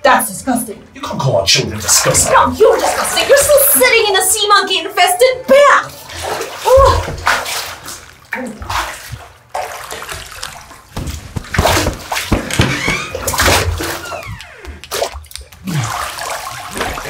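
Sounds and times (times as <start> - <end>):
bath water sloshing and splashing: 1.7 - 4.8, 5.5 - 17.0.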